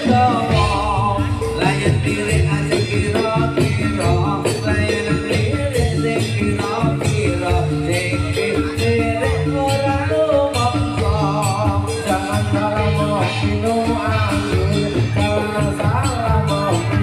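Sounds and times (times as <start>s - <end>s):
drum strokes: 0.0s - 17.0s
gamelan ensemble playing: 0.0s - 17.0s
person singing: 0.0s - 17.0s.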